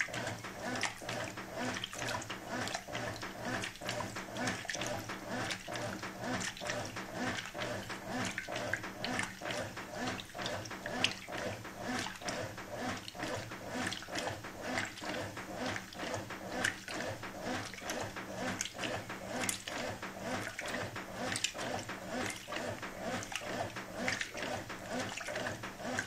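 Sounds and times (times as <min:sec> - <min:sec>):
washing machine churning and sloshing: 0:00.0 - 0:26.0
washing machine motor hum: 0:00.0 - 0:26.0.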